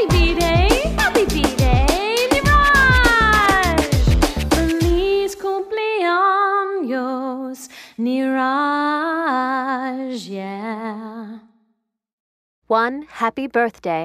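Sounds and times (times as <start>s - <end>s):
woman singing unaccompanied: 0.0s - 11.4s.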